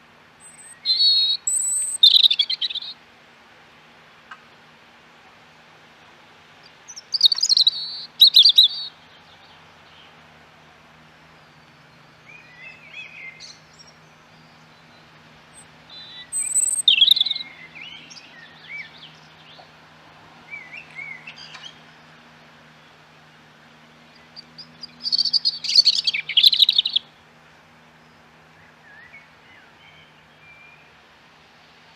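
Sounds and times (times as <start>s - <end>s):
faint hum and hiss: 0.0s - 31.9s
songbirds chirping and singing: 0.4s - 3.0s, 6.6s - 19.8s, 20.4s - 27.1s, 27.8s - 31.0s.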